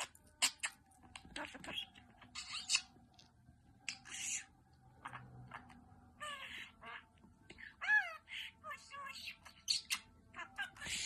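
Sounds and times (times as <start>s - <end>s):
parrot squawking: 0.0s - 0.8s, 1.4s - 3.0s, 3.9s - 11.0s.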